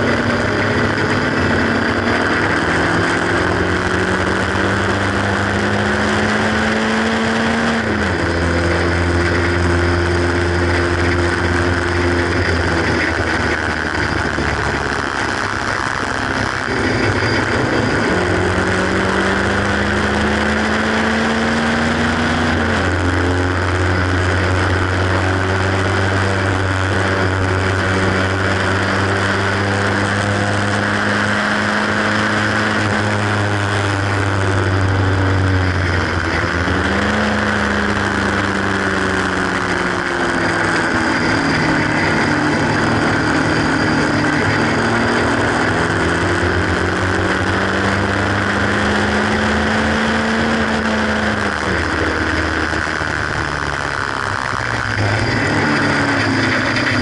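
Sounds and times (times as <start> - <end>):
car engine at full speed: 0.0 - 57.0
heavy wind noise: 0.0 - 57.0.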